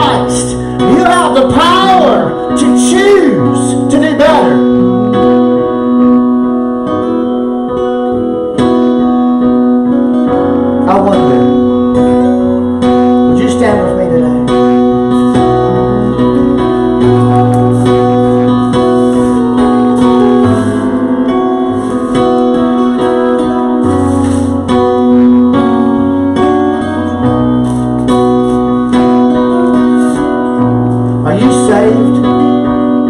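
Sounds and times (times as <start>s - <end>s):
slow keyboard chords: 0.0s - 33.0s.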